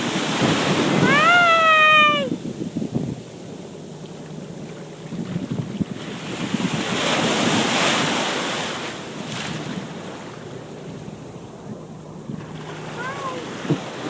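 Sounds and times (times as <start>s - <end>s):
ocean wave breaking: 0.0s - 14.0s
wind buffeting microphone: 0.0s - 14.0s.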